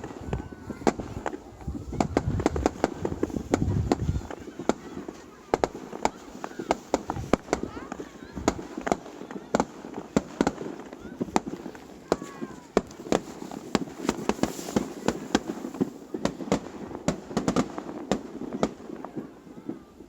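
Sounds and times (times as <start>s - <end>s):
fireworks bursting with bangs: 0.0s - 20.0s.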